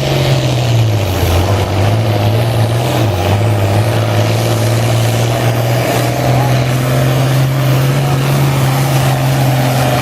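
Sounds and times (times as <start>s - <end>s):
tractor engine running hard: 0.0s - 10.0s.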